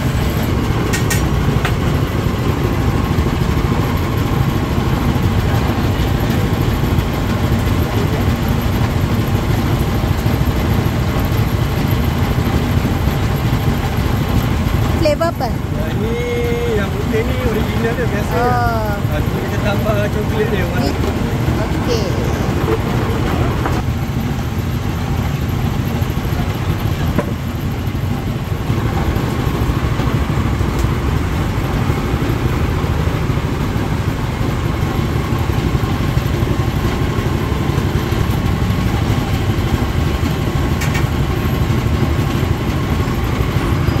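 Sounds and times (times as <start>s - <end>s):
low engine rumble: 0.0s - 44.0s.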